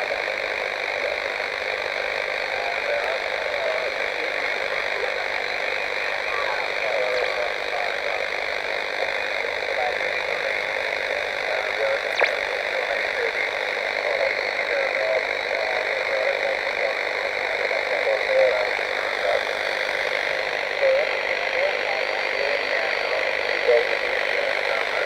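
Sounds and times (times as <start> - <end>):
radio receiver hiss: 0.0 - 25.0
weak broken radio voice: 0.0 - 25.0.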